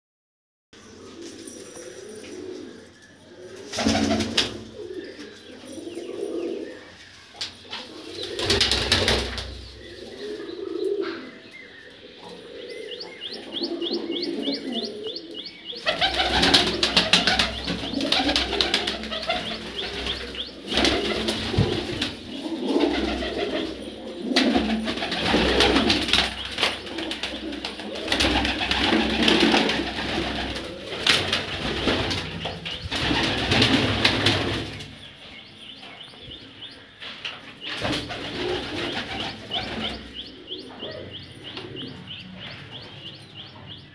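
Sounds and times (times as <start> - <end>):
pigeons cooing: 0.8 - 43.9.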